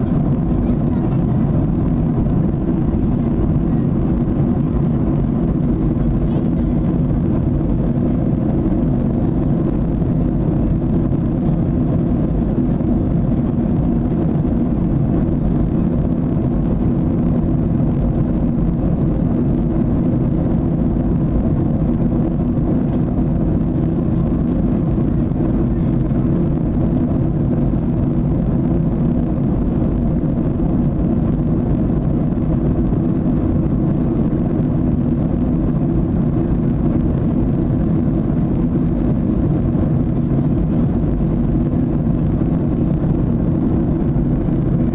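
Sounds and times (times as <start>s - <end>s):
jet engine cabin rumble: 0.0s - 44.9s.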